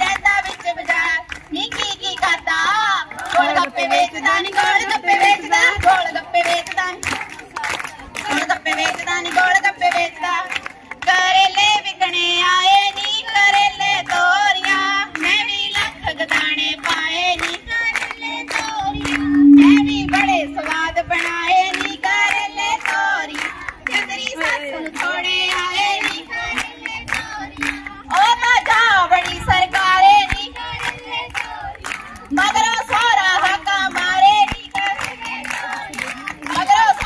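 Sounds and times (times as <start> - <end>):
rhythmic hand clapping: 0.0 - 37.0
women singing together: 0.0 - 37.0.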